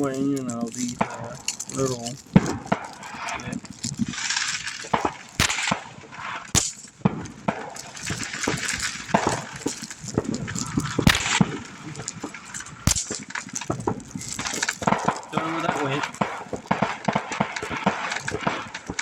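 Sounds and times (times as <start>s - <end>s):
fireworks popping and crackling: 0.0s - 19.0s
loud fireworks bangs: 0.0s - 19.0s.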